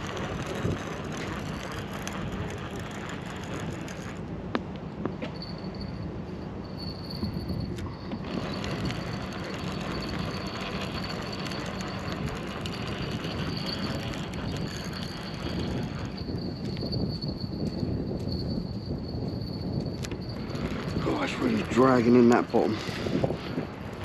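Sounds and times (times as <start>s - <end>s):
fishing reel whirring: 0.0s - 4.2s, 6.8s - 17.2s, 19.4s - 24.0s.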